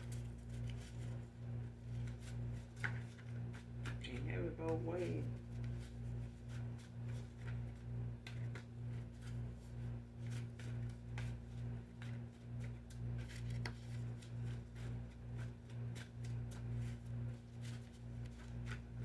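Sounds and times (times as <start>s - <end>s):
low pulsing hum: 0.0s - 19.0s.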